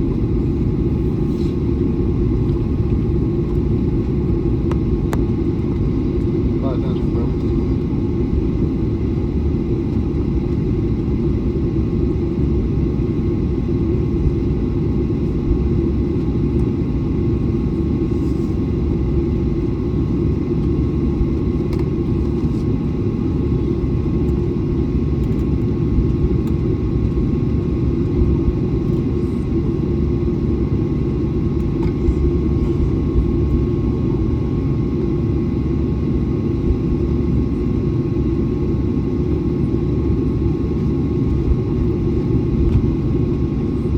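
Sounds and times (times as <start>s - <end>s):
airliner taxiing rumble: 0.0s - 43.9s.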